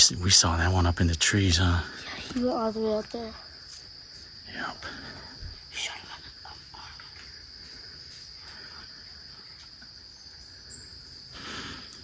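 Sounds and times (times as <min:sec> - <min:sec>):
cricket chorus trilling: 0:00.0 - 0:12.0.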